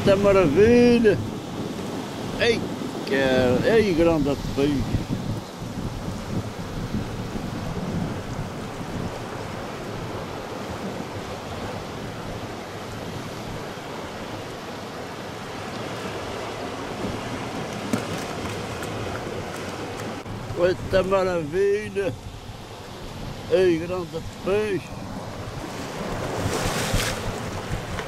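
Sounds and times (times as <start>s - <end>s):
wind noise on microphone: 0.0s - 14.6s, 16.0s - 28.0s
sea surf on rocky shore: 0.0s - 28.0s.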